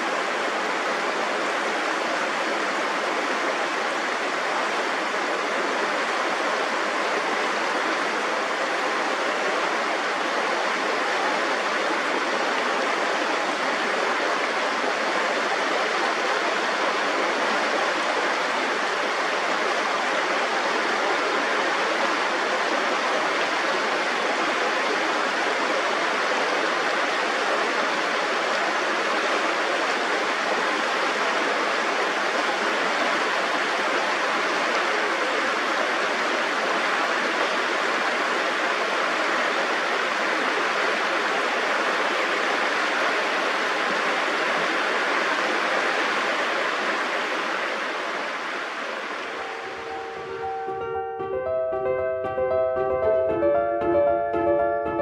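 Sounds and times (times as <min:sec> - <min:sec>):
running water rushing: 0:00.0 - 0:50.6.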